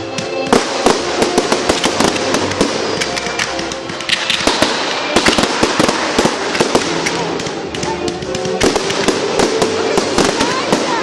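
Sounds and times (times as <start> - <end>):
faint music: 0.0 - 11.0
fireworks bangs and crackling: 0.0 - 11.0.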